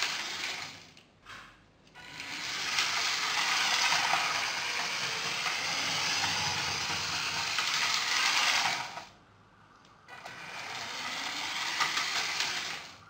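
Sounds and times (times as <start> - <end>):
toy train motor running: 0.0 - 0.9, 2.0 - 9.2, 10.1 - 13.0.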